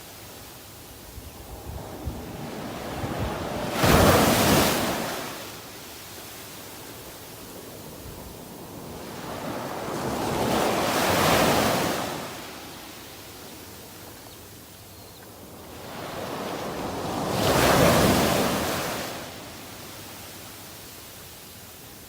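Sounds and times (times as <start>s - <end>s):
ocean waves breaking on beach: 1.3s - 14.1s, 15.3s - 21.2s.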